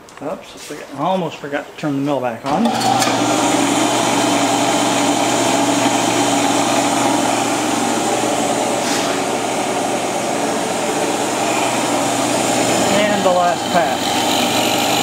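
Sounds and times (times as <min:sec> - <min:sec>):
milling machine cutting metal: 0:02.5 - 0:15.0.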